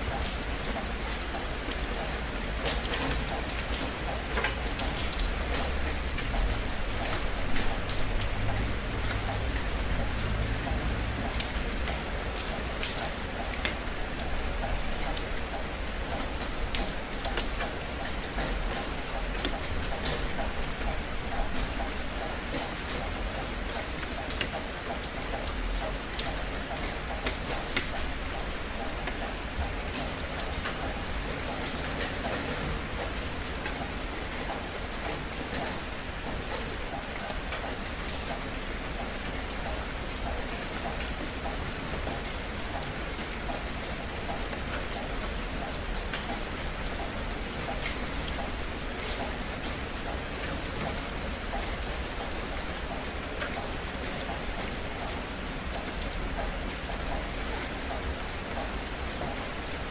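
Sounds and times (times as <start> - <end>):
raindrops striking close by: 0.0 - 59.9
steady rain hiss: 0.0 - 59.9.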